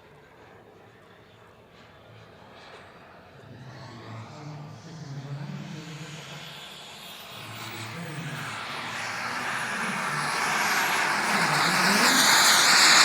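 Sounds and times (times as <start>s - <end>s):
model jet turbine whine: 0.0s - 13.0s.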